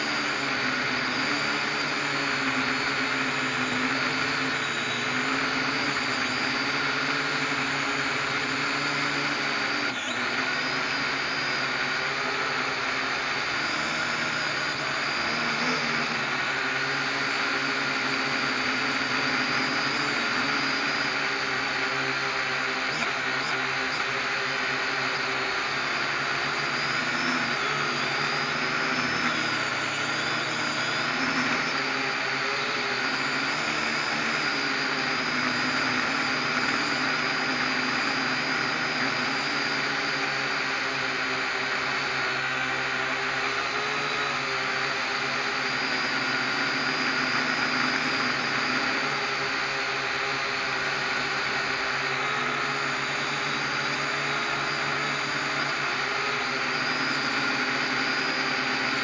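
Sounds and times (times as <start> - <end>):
drone propellers whirring: 0.0 - 59.0.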